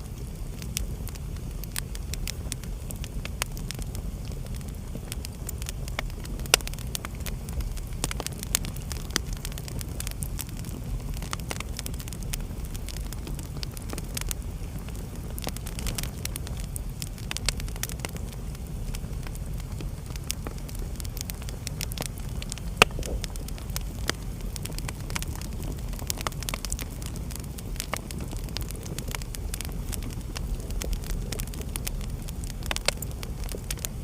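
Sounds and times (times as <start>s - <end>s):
low rumble of flames: 0.0s - 34.0s
wood fire crackling and popping: 0.0s - 34.0s.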